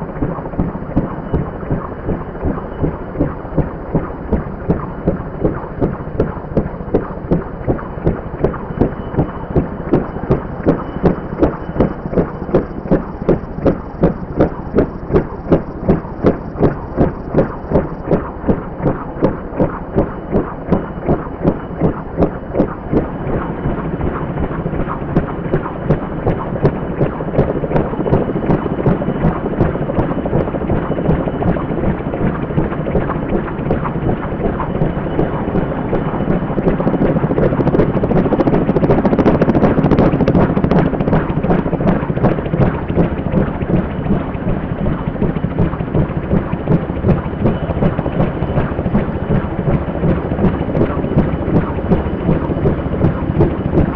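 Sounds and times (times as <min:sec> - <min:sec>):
helicopter rotor thumping: 0:00.0 - 0:53.9
turbine running: 0:00.0 - 0:53.9.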